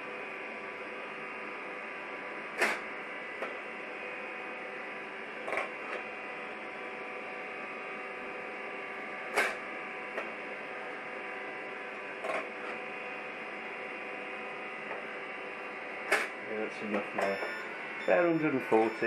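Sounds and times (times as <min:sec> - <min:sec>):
motor and fan hum: 0:00.0 - 0:19.0.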